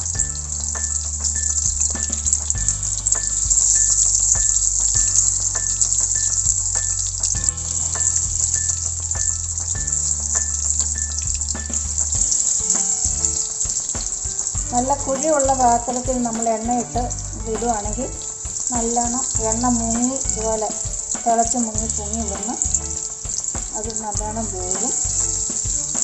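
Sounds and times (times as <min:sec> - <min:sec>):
food deep-frying in oil: 0:00.0 - 0:26.0.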